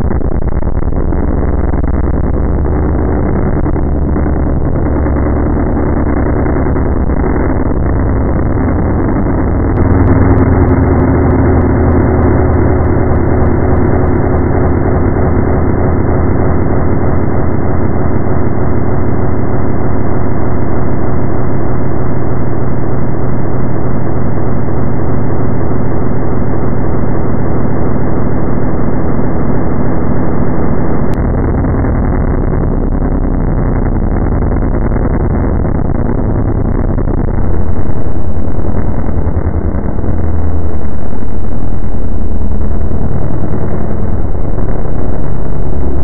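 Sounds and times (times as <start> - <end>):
grainy noise wash: 0.0 - 46.0
low hum: 0.0 - 46.0.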